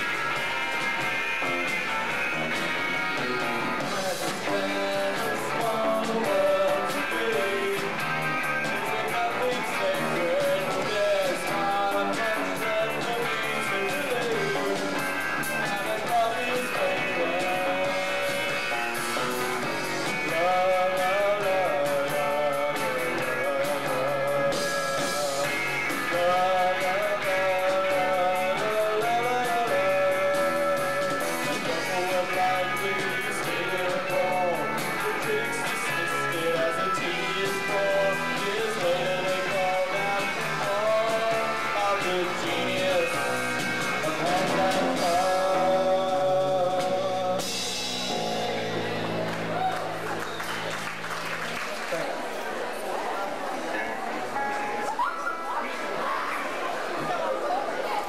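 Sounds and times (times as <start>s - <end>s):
electric guitars playing: 0.0s - 57.1s
drums: 0.0s - 58.0s.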